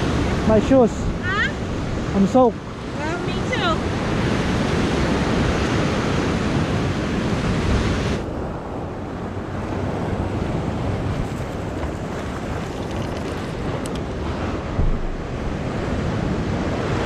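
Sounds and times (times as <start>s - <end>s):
ocean surf breaking on rocks: 0.0s - 17.0s
wind buffeting microphone: 0.0s - 17.0s.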